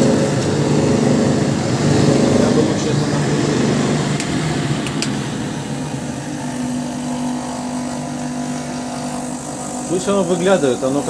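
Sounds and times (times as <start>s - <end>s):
bench grinder motor hum: 0.0s - 11.0s
finishing machine running: 0.0s - 11.0s.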